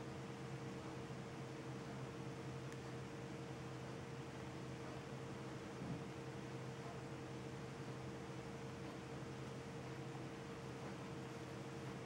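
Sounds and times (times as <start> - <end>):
low constant hum: 0.0 - 12.0.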